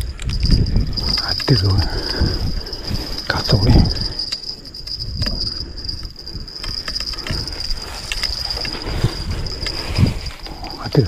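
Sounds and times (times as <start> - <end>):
high-pitched insect drone: 0.0 - 11.0
low wind rumble: 0.0 - 11.0.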